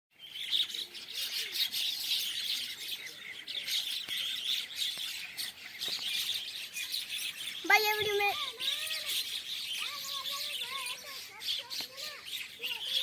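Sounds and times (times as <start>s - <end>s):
flock of birds chirping: 0.1s - 13.0s.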